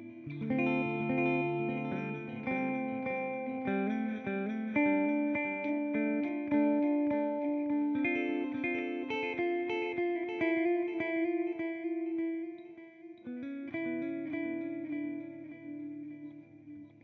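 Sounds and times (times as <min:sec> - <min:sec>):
electric guitar with delay echoes: 0:00.0 - 0:17.0.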